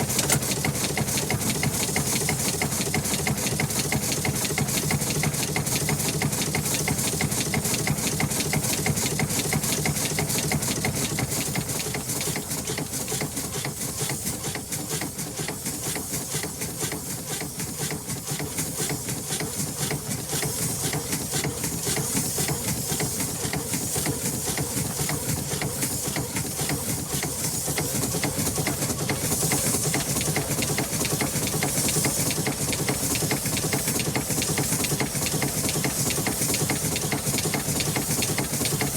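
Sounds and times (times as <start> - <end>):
engine running with hiss: 0.0 - 38.9.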